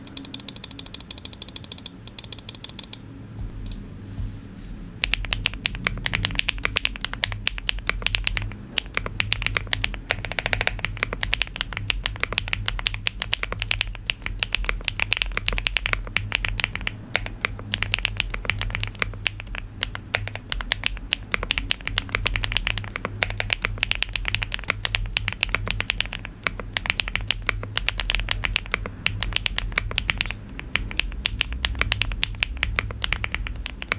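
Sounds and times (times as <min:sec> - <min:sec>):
thocky mechanical keyboard typing: 0:00.0 - 0:03.0, 0:05.0 - 0:33.9.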